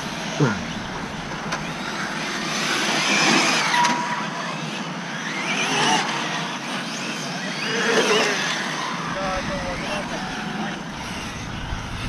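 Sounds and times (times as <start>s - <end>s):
rc car electric motor whining: 0.0s - 12.0s.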